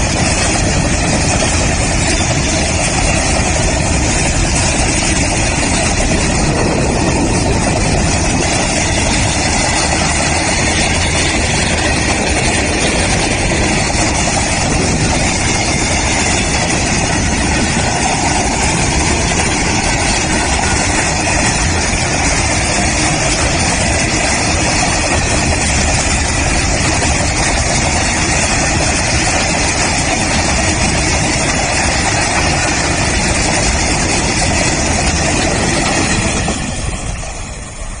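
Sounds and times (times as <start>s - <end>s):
freight train rolling: 0.0s - 38.0s.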